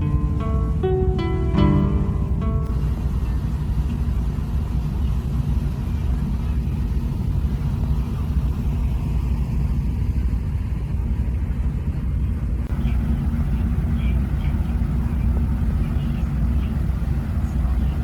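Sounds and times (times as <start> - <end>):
car ferry engine rumble: 0.0 - 18.0.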